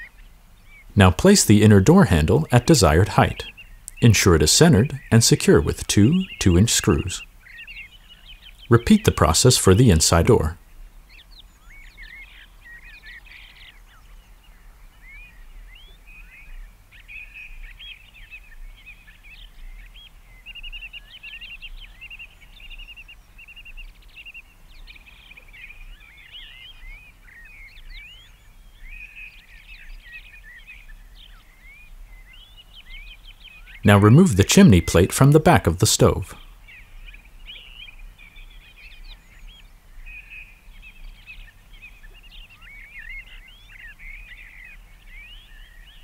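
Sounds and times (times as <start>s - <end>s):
songbirds chirping and singing: 0.0s - 46.0s.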